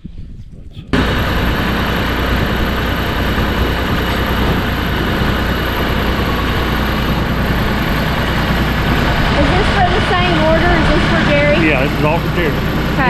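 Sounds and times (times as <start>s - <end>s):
large engine idling: 0.9s - 13.0s.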